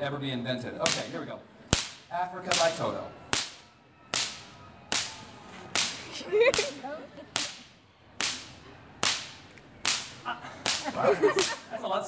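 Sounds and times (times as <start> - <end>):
whip cracking: 0.8 - 11.7.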